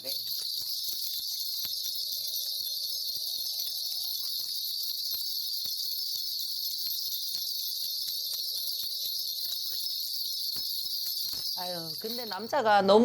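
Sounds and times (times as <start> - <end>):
crickets chirring: 0.0 - 13.0
faint wavering hum: 0.0 - 13.0.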